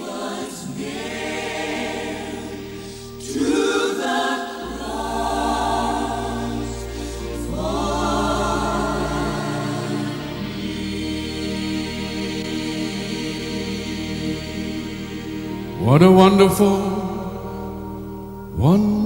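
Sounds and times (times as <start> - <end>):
gospel choir singing chords: 0.0 - 19.0.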